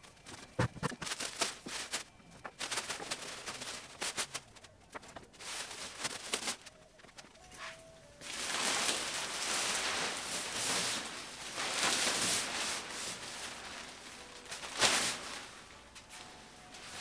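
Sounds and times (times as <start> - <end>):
plastic tarp rustling and crinkling: 0.0 - 17.0.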